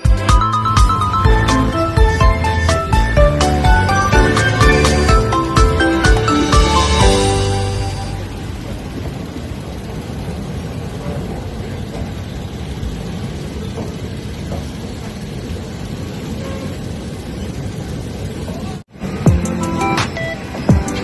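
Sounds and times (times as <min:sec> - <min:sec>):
train carriage rumbling and rattling: 0:00.0 - 0:21.0.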